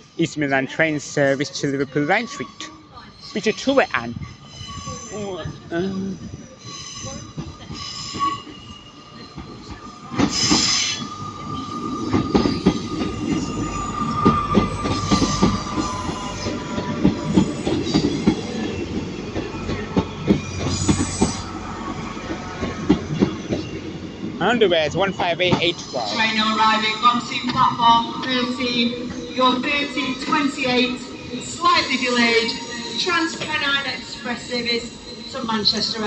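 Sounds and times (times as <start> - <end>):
low train rumble: 0.0 - 36.0
high flange squeal: 6.0 - 36.0.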